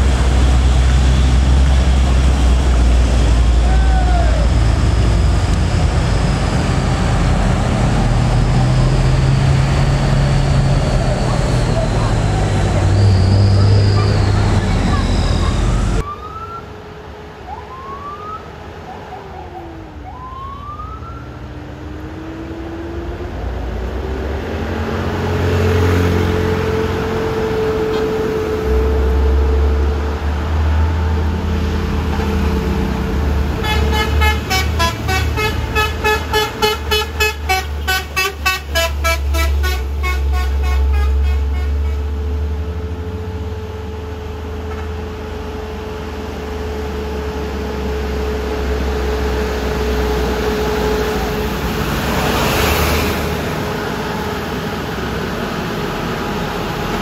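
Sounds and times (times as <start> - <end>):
diesel truck engine running: 0.0 - 16.1, 24.9 - 57.0.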